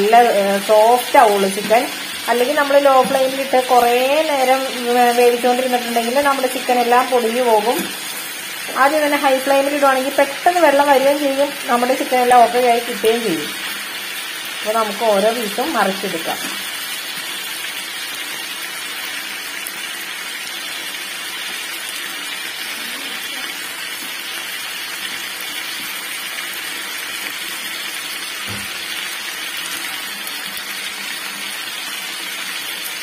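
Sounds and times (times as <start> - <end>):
chicken frying in oil: 0.0 - 33.0.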